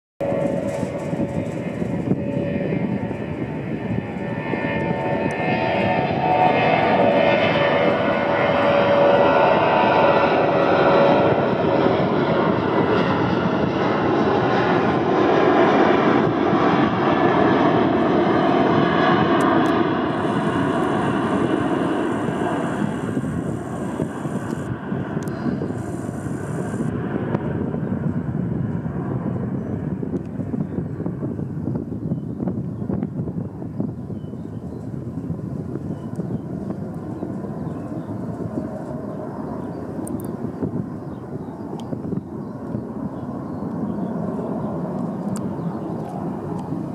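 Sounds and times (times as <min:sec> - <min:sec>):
jet engines roaring at takeoff: 0:00.2 - 0:46.9.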